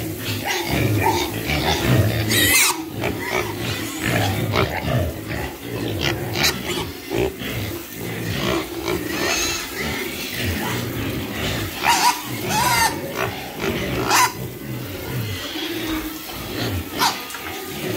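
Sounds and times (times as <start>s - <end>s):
pig squealing: 0.0s - 17.9s
pigs grunting: 0.0s - 17.9s.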